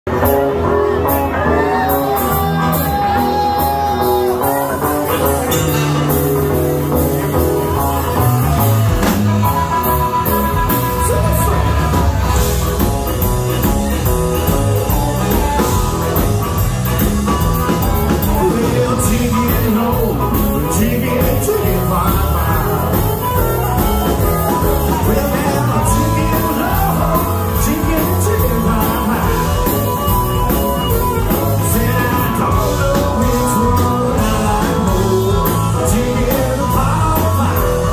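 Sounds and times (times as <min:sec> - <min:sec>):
drums: 0:00.0 - 0:37.9
electric guitar: 0:00.1 - 0:37.9
person singing: 0:00.2 - 0:37.9
harmonica: 0:00.8 - 0:37.9.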